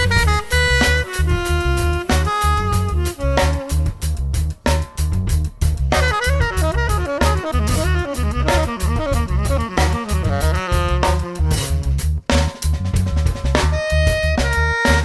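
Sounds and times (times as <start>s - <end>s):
upbeat instrumental music: 0.0s - 15.0s.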